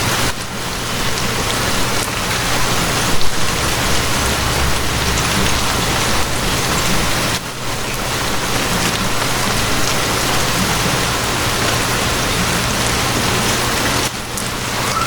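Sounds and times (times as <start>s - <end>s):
heavy rain falling: 0.0s - 15.0s
low steady hum: 1.0s - 13.3s.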